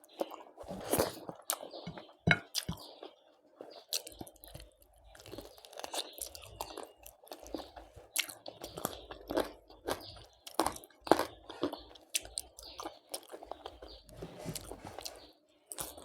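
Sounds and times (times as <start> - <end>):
person chewing crisp food: 0.0 - 16.0.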